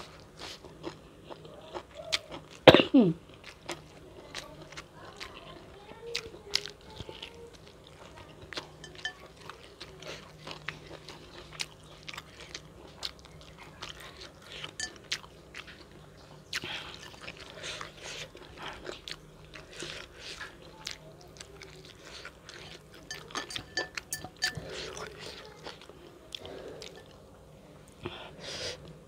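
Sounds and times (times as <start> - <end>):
chewing food: 0.0 - 28.2.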